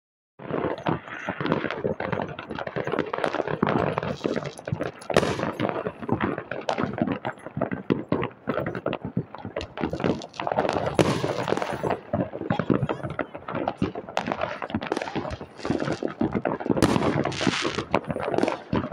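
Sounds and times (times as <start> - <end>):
fireworks and firecrackers crackling: 0.4 - 18.9.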